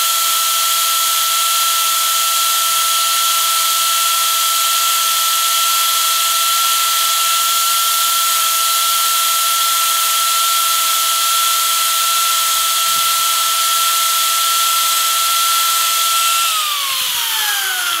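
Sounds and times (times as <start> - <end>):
power carving tool motor whine: 0.0 - 18.0.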